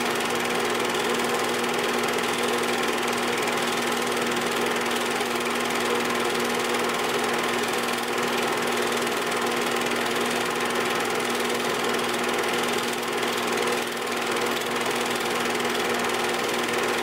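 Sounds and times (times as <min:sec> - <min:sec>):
film projector whirring and clattering: 0:00.0 - 0:17.0.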